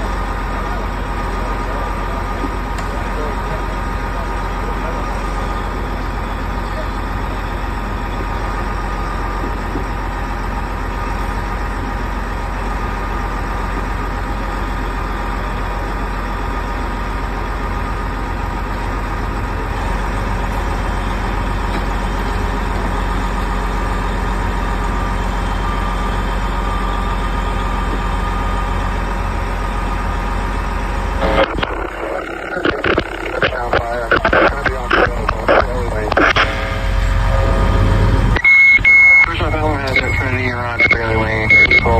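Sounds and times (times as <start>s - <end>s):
diesel engine rumbling: 0.0s - 41.9s
thin steady whine: 0.0s - 41.9s.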